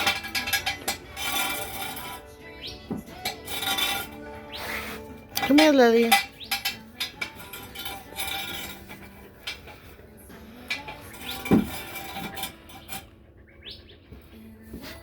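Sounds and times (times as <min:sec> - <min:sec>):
metal tools clinking: 0:00.0 - 0:04.5, 0:05.2 - 0:13.1.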